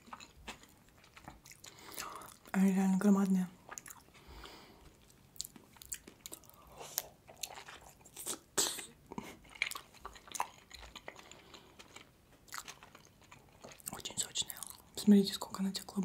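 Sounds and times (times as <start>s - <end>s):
close-miked chewing and mouth sounds: 0.0s - 16.0s.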